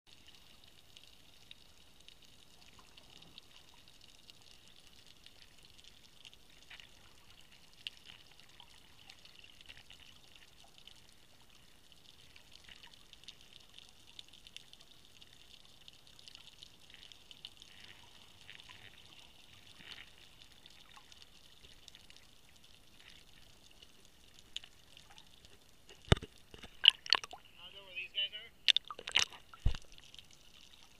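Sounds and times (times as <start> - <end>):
underwater hiss with crackling clicks: 0.1 - 27.4.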